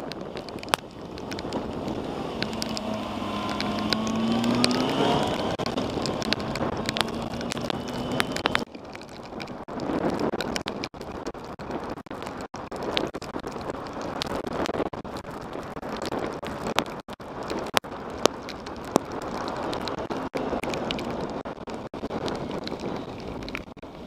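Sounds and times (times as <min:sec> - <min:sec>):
raindrops ticking on camera: 0:00.0 - 0:24.0
wind rushing over microphone: 0:00.0 - 0:24.0.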